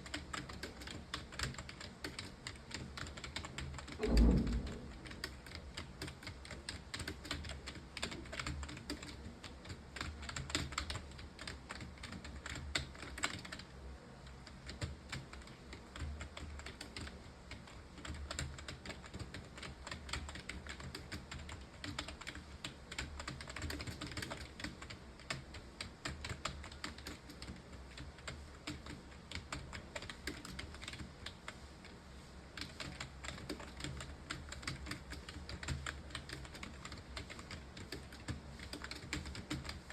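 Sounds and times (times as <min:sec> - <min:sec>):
typing on computer keyboard: 0:00.0 - 0:13.7, 0:14.4 - 0:31.6, 0:32.6 - 0:39.9.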